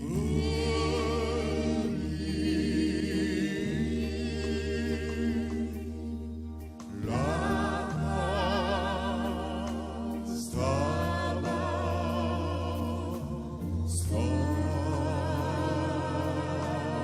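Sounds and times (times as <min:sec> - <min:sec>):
gospel choir singing: 0:00.0 - 0:17.0
sustained low bass notes: 0:00.0 - 0:17.0.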